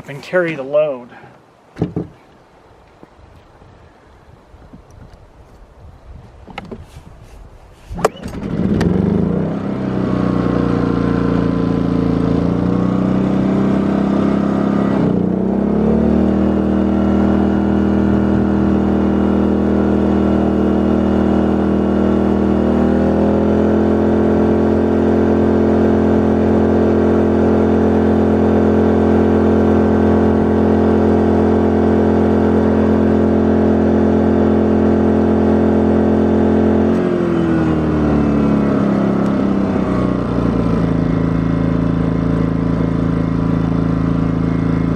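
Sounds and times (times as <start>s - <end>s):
generator engine running: 8.0s - 44.9s.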